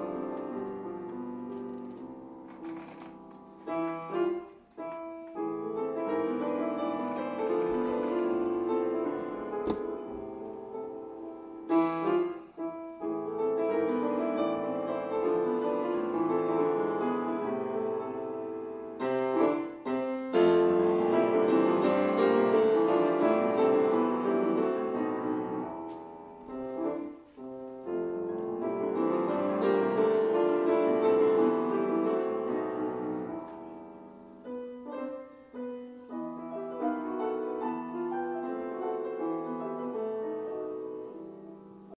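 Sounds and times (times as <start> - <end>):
grand piano piece: 0.0 - 41.9.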